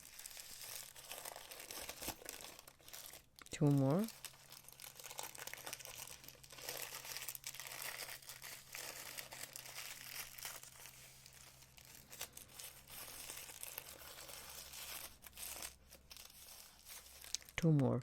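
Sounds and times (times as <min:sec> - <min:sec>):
packaging crinkling and rustling: 0:00.0 - 0:17.7.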